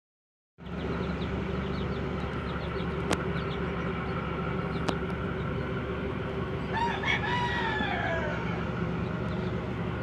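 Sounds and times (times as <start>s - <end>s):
ship engine droning: 0.6s - 10.0s.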